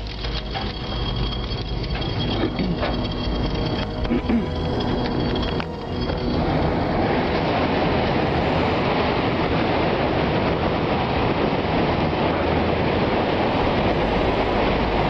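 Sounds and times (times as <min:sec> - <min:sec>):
roaring tornado winds: 0:00.0 - 0:15.0.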